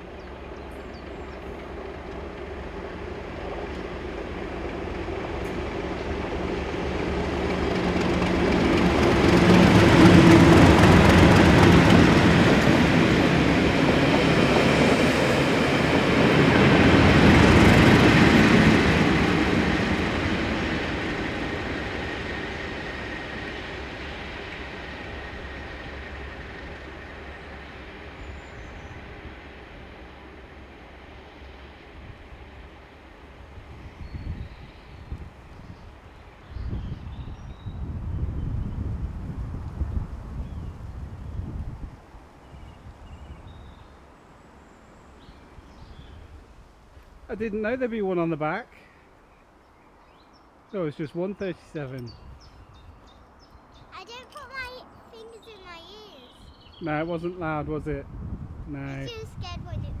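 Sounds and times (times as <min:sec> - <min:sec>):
diesel locomotives passing: 0:00.0 - 1:00.0.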